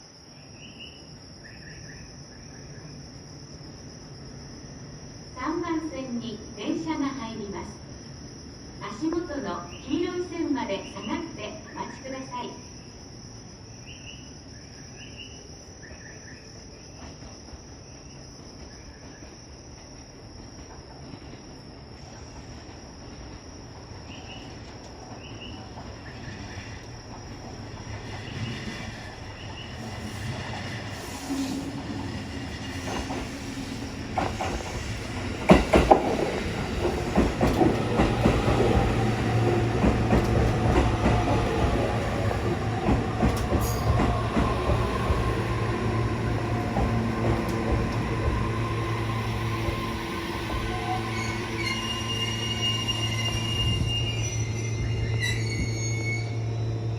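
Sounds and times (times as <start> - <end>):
insects chirping: 0.0 - 56.9
train approaching: 0.0 - 56.9.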